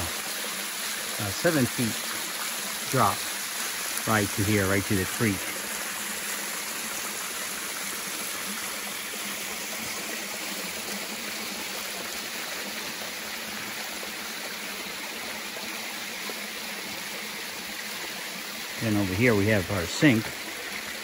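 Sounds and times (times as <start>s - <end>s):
water splashing down waterfall: 0.0s - 21.0s.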